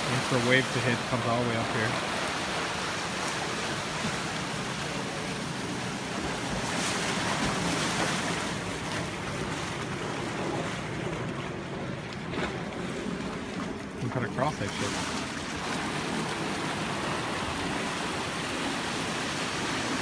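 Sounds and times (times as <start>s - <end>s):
ocean surf washing over rocks: 0.0s - 20.0s.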